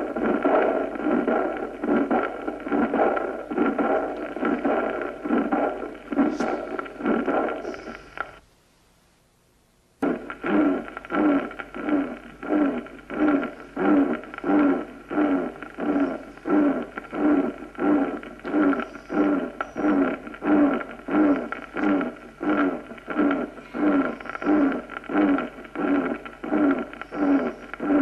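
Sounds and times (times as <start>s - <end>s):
heart murmur: 0.0s - 8.4s, 10.0s - 28.0s
heartbeat through stethoscope: 0.0s - 8.4s, 10.0s - 28.0s.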